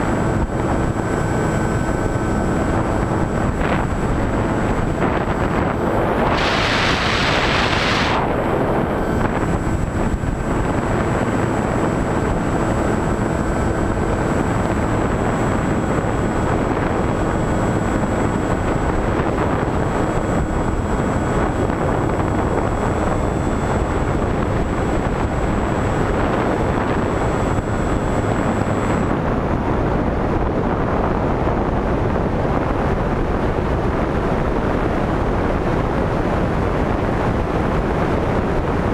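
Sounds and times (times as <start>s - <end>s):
electric motor and propeller drone: 0.0s - 38.9s
faint steady whine: 0.0s - 38.9s
wind rushing over microphone: 0.0s - 38.9s.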